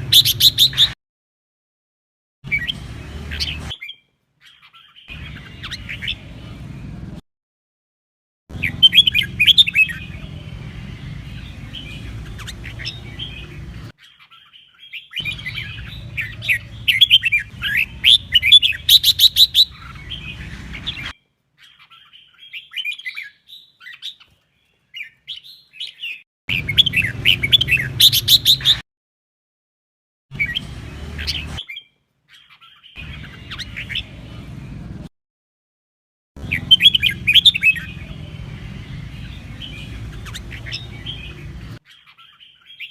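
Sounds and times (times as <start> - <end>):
bird chirping song: 0.0 - 1.0, 2.5 - 7.2, 8.5 - 28.8, 30.3 - 35.1, 36.4 - 42.9.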